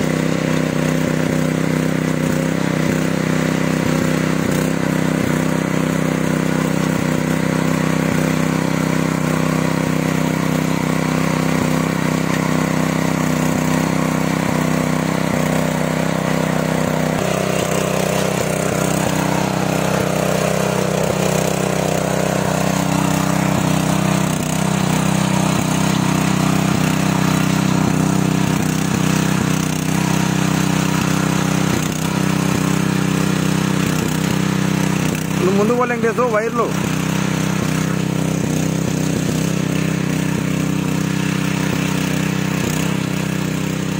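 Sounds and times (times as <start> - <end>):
power weeder engine running: 0.0 - 43.9
rotary tines tilling soil: 0.0 - 43.9.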